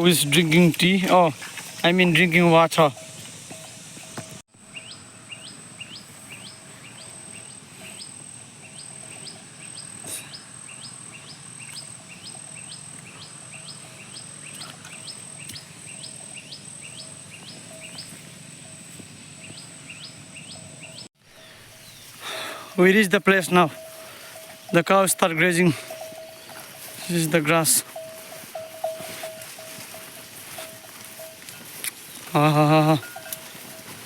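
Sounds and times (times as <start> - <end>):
high insect drone: 0.1 - 34.0.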